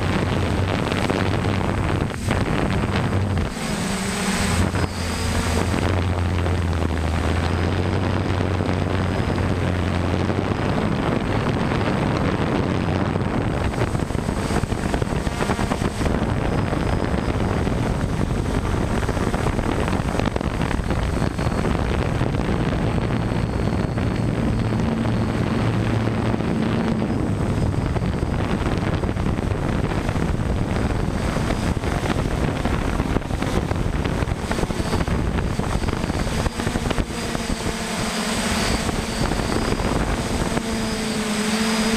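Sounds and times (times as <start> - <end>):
drone motors and propellers humming: 0.0 - 41.9
wind rushing over microphone: 0.0 - 41.9.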